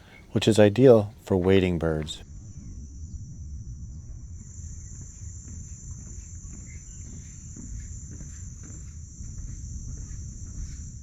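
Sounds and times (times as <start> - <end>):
high-pitched insect chorus: 1.9 - 11.0
wind rumble on microphone: 2.2 - 11.0.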